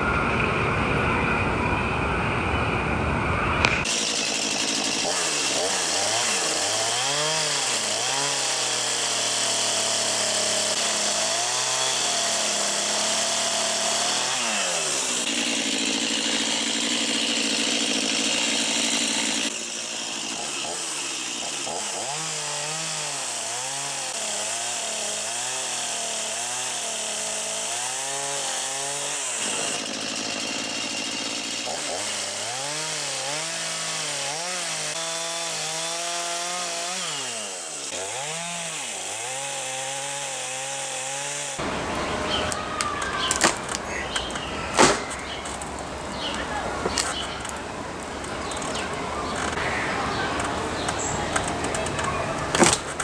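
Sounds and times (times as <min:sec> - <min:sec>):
chainsaw cutting wood: 0:03.6 - 0:53.0.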